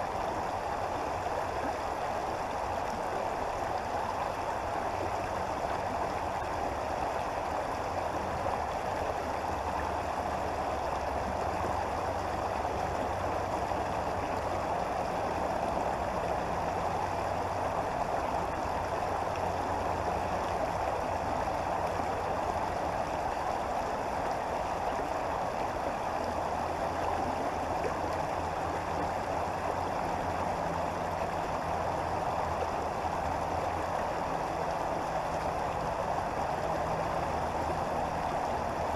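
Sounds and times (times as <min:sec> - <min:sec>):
creek water flowing: 0:00.0 - 0:38.9.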